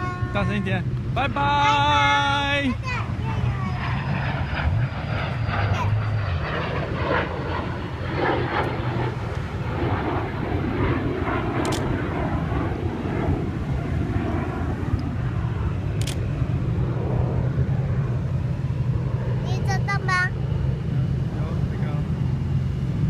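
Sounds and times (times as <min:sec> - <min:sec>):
airplane engine drone: 0:00.0 - 0:23.0.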